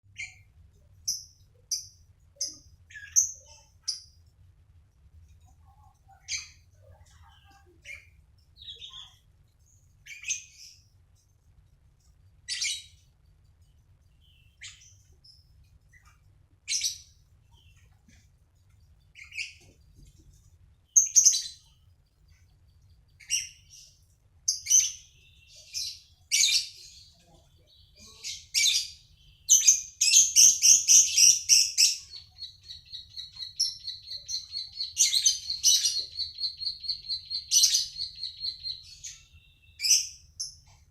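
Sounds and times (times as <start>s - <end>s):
songbird chirping and trilling: 0.1s - 40.9s.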